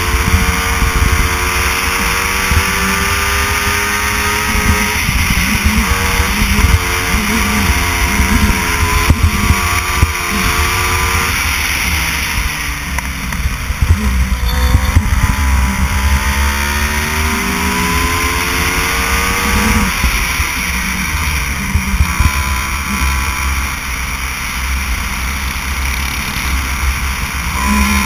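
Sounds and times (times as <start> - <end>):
heavy low rumble: 0.0 - 27.5
go-kart engine: 0.0 - 28.0.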